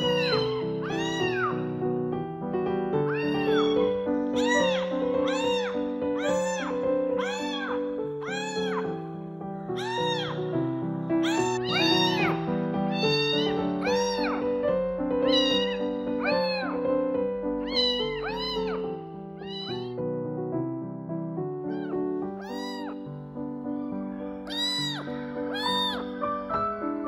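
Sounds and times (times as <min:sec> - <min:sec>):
kitten meowing: 0:00.0 - 0:01.8, 0:02.9 - 0:20.0, 0:21.6 - 0:23.1, 0:23.8 - 0:26.6.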